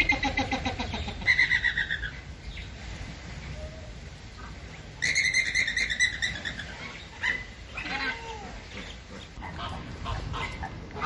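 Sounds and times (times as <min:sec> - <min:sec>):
flamingos calling: 0:00.0 - 0:02.3, 0:04.3 - 0:11.0.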